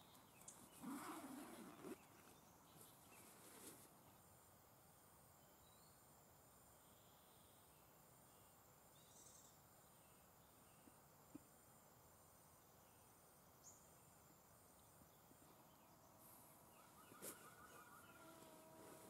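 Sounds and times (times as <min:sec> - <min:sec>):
faint pulsing insect trill: 0:00.0 - 0:19.0.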